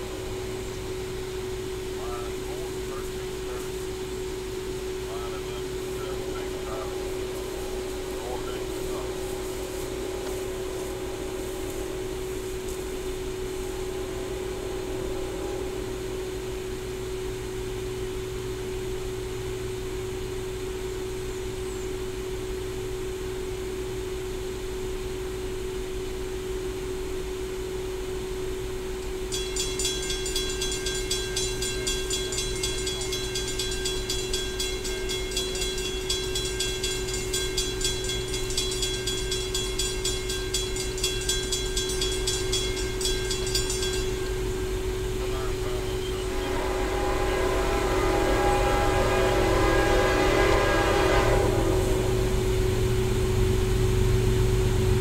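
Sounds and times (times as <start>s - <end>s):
distant train drone: 0.0s - 55.0s
high rapidly pulsing ringing: 0.0s - 55.0s.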